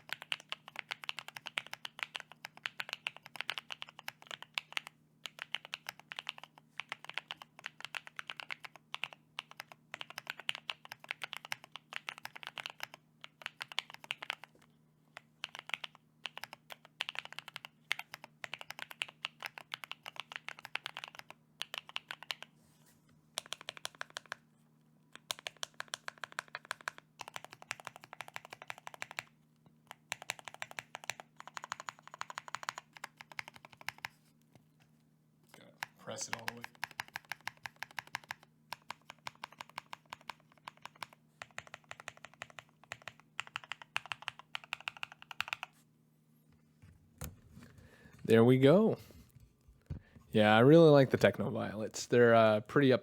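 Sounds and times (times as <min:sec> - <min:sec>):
typing on mechanical keyboard: 0:00.0 - 0:22.5, 0:23.4 - 0:24.5, 0:25.1 - 0:34.2, 0:35.8 - 0:45.8.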